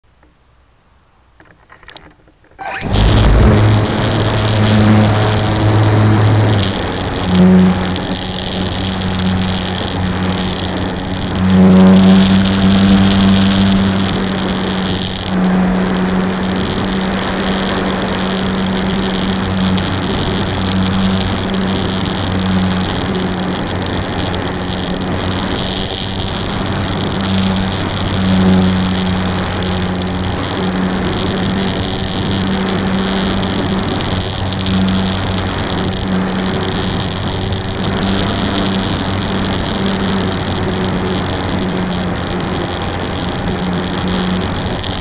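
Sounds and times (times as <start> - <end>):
electric motor and propeller hum: 1.6 - 45.0.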